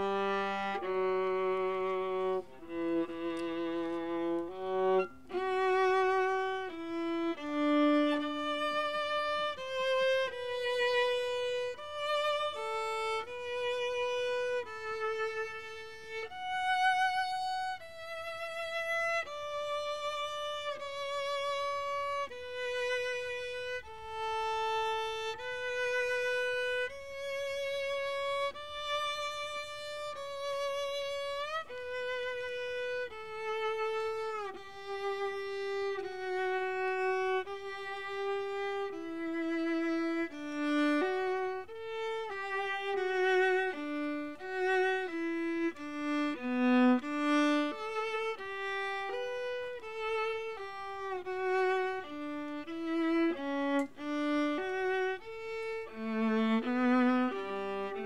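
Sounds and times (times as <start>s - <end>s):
bowed string melody with vibrato: 0.0s - 58.0s.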